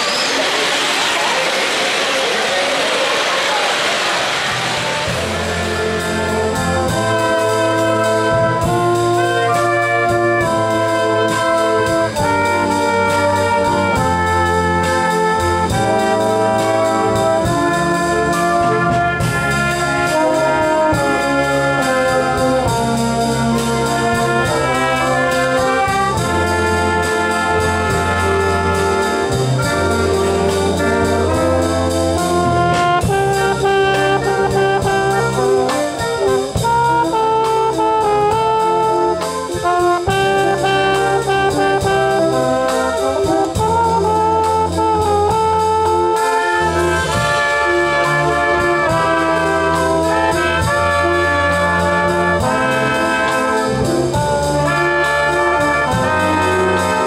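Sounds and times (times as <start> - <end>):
concert band playing: 0.0 - 57.0
tuba bass notes: 3.1 - 57.0.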